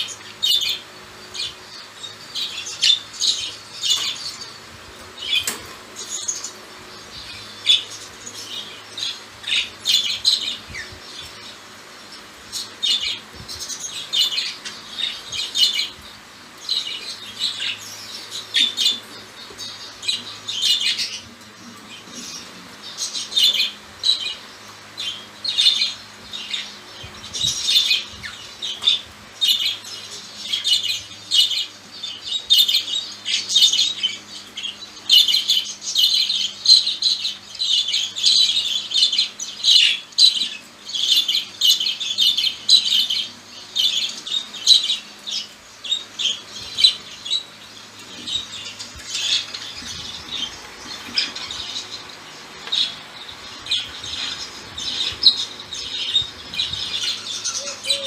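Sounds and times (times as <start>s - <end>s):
budgerigars chattering: 5.2s - 58.0s.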